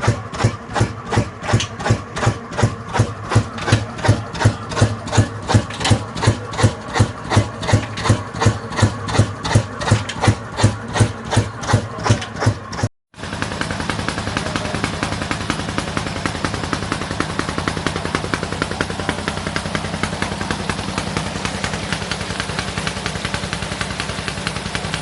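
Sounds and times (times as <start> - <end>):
slow diesel engine running: 0.0 - 25.0.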